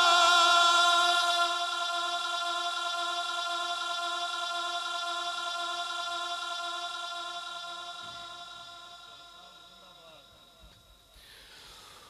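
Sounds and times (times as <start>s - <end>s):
man reciting with echo: 0.0s - 11.0s.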